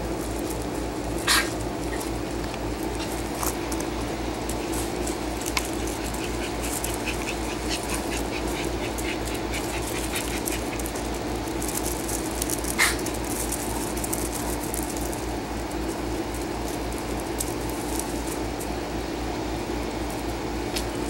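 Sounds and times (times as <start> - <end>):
dogs scuffling on fabric: 0.0 - 18.9
steady low hum: 0.0 - 21.0.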